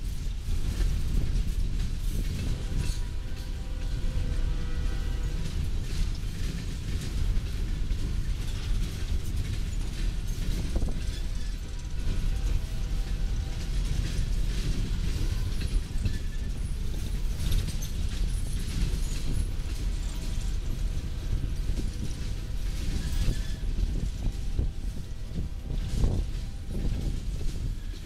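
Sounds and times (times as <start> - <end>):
clicks and knocks from train cars: 0.0 - 28.0
steel wheels rolling on rail: 0.0 - 28.0.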